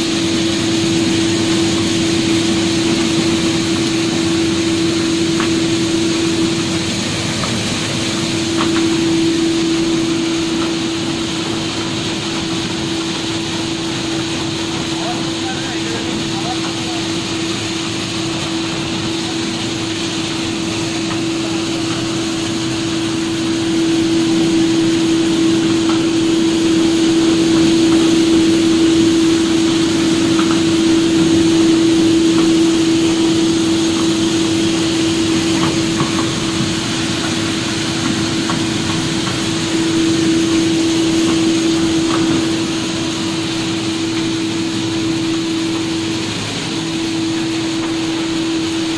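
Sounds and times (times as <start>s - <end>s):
motor hum: 0.0s - 48.9s.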